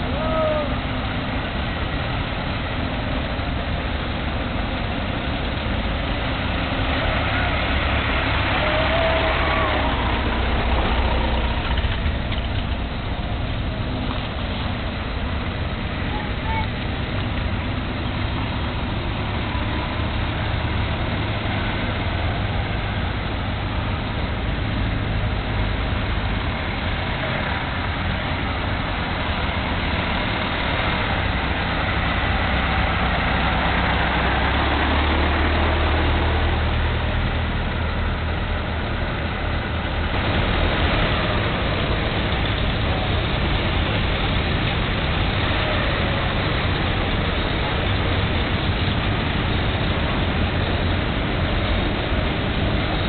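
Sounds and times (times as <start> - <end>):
car engines rumbling past: 0.0 - 53.0.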